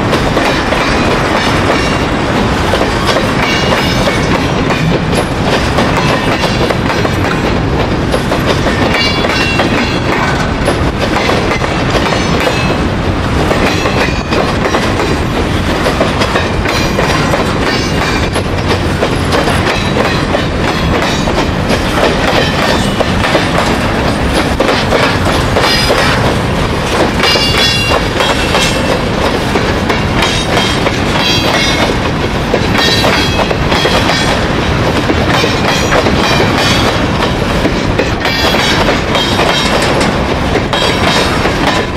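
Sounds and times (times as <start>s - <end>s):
clickety-clack over rail joints: 0.0s - 41.9s
train wheels rumbling on rail: 0.0s - 41.9s.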